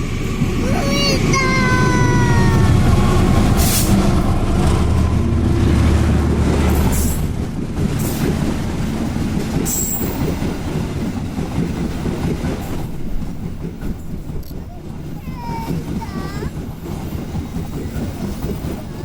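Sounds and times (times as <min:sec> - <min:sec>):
locomotive low rumble: 0:00.0 - 0:19.0
train carriages clattering past: 0:00.0 - 0:19.0.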